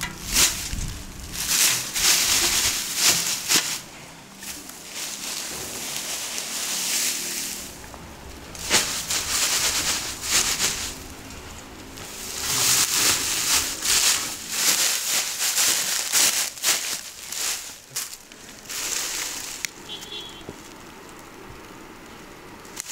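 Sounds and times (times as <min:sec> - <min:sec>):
dry straw rustling and crackling: 0:00.0 - 0:22.9.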